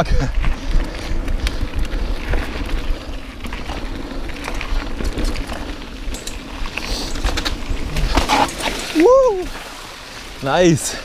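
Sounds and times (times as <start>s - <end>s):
bike clicks and rattles: 0.0s - 10.6s
tyres rolling on dirt: 0.0s - 11.0s.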